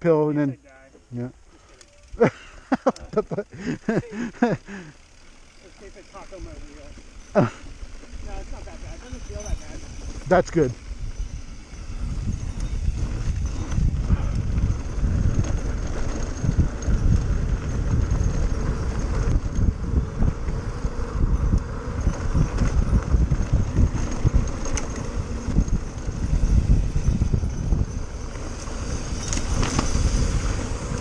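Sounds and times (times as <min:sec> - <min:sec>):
bike rolling over dirt trail: 0:01.6 - 0:31.0.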